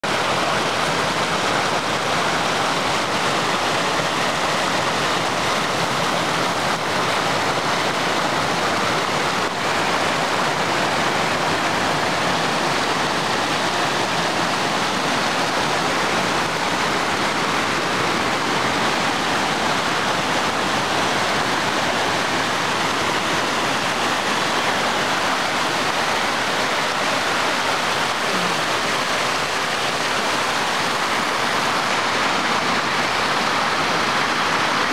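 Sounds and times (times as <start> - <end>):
stream rushing over boulders: 0.0 - 34.9.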